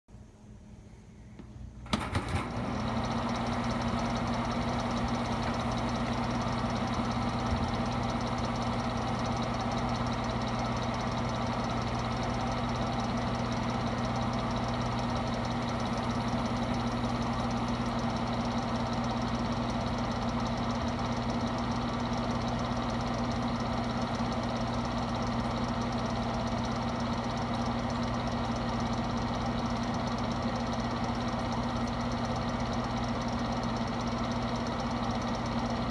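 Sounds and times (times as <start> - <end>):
space heater fan whirring: 0.3 - 35.9.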